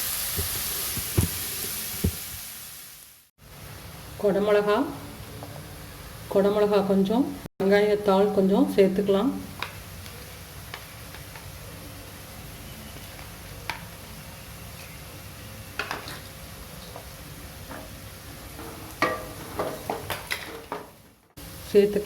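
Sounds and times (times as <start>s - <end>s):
vegetables sizzling in oil: 0.0s - 7.0s, 7.9s - 22.0s.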